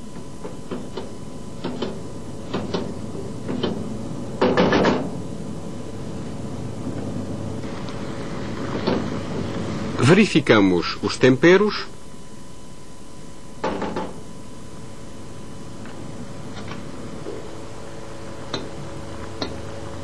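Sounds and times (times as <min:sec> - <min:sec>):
hum and hiss: 0:00.0 - 0:20.0.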